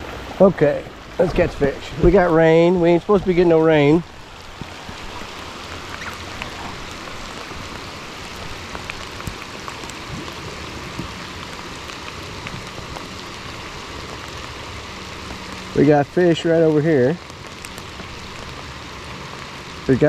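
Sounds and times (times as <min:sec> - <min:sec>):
rain drops ticking: 0:00.0 - 0:20.0.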